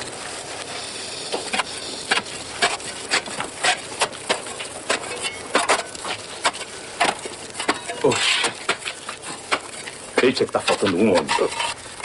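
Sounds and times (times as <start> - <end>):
hand tools pounding: 1.5 - 11.7.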